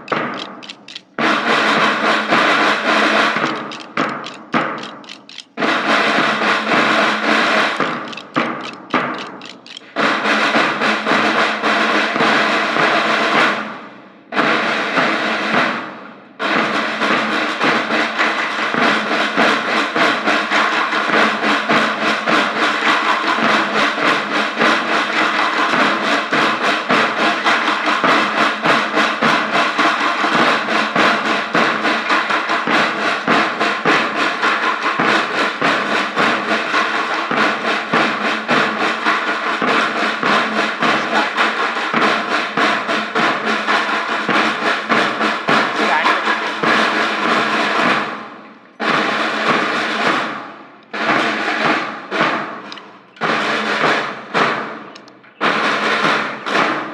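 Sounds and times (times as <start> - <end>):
drums playing fast rolling beats: 0.0 - 56.9.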